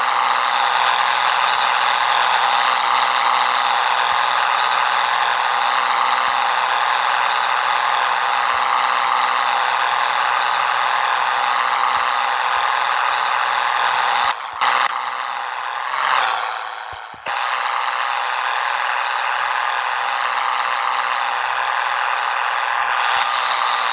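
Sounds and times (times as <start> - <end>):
road noise: 0.0 - 23.9
truck engine drone: 0.0 - 23.9
cab rattling: 1.4 - 23.8.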